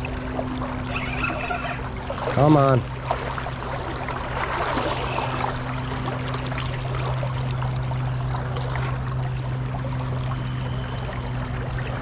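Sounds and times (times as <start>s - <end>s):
river water running and splashing: 0.0s - 12.0s
steady low hum: 0.0s - 12.0s.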